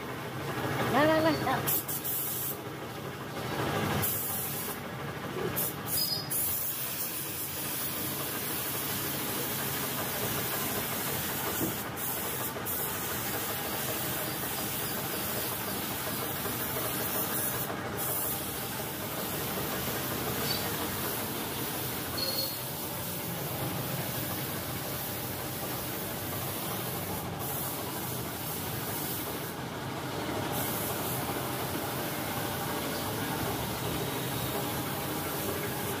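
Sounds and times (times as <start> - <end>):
paint spray gun hissing: 1.7 - 2.7, 4.0 - 4.8, 5.6 - 29.6, 30.4 - 36.0.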